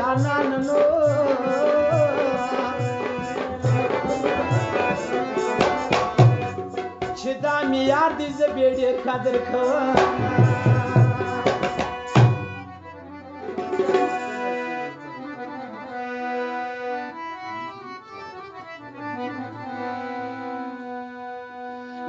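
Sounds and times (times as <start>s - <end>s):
reed instrument melody: 0.8s - 7.2s, 8.4s - 22.0s.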